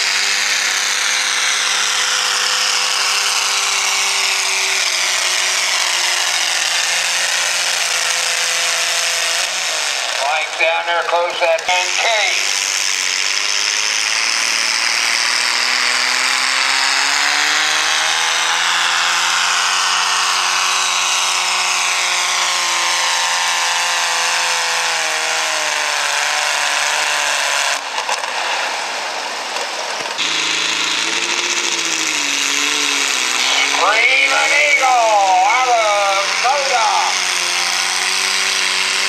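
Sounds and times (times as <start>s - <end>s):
another tractor engine: 0.0s - 39.0s
tractor engine running hard: 0.0s - 39.0s.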